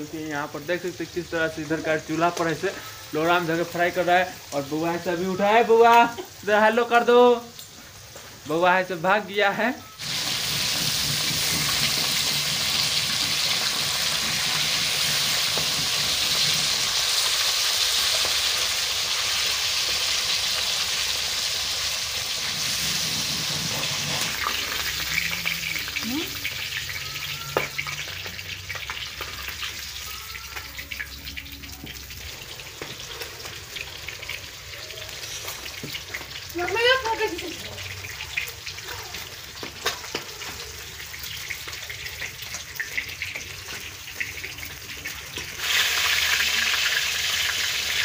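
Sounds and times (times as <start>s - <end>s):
fish sizzling in hot oil: 0.0s - 48.0s.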